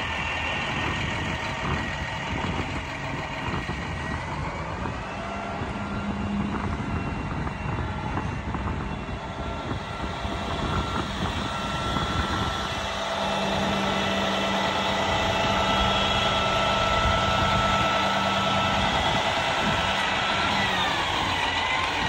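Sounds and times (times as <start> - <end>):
diesel truck engine running: 0.0 - 22.0
hydraulic whine: 0.0 - 22.0.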